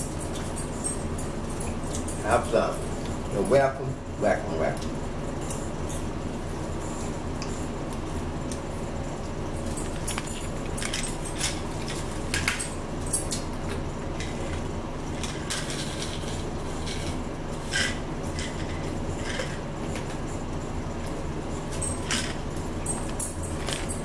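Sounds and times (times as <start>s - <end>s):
steady low background hum: 0.0s - 24.0s.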